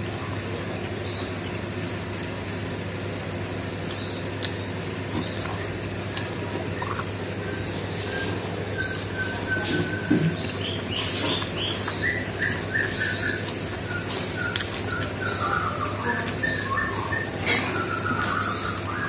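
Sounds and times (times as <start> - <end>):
birds chirping: 0.0 - 19.0
chewing food: 0.0 - 19.0
steady low hum: 0.0 - 19.0.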